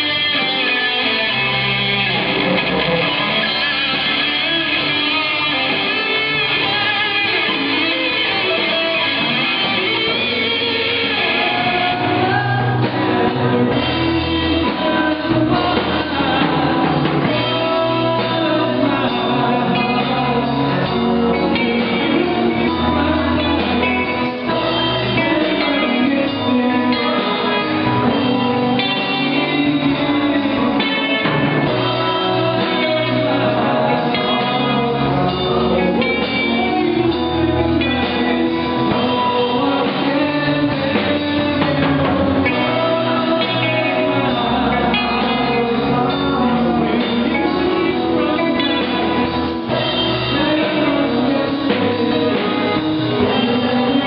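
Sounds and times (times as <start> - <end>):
live band with guitars: 0.0 - 54.0.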